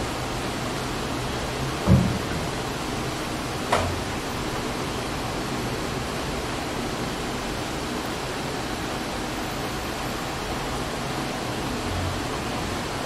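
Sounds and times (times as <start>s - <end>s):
room background hiss: 0.0s - 13.0s.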